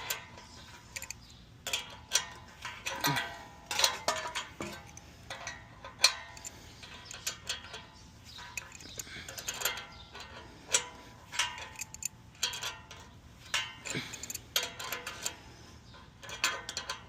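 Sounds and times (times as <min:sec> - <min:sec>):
metallic clicks and clanks: 0:00.0 - 0:17.0.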